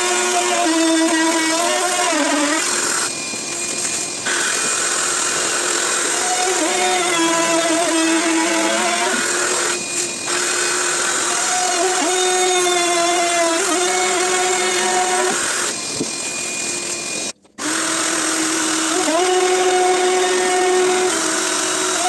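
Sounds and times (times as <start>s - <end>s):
router cutting wood: 0.0s - 22.0s.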